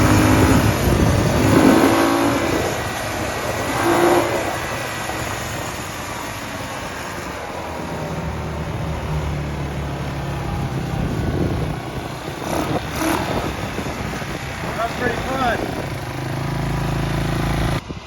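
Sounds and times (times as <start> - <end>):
constant rushing noise: 0.0 - 18.0
quad engine running: 0.0 - 18.0.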